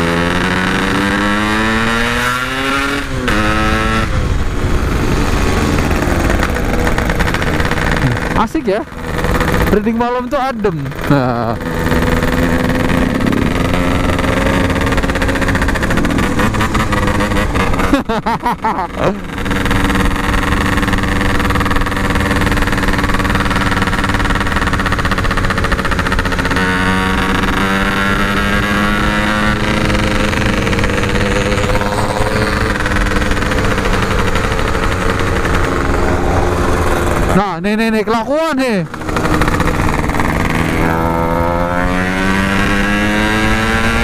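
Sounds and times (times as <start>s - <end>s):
engine sputtering: 0.0s - 44.0s
motorcycle engine and exhaust: 0.0s - 44.0s.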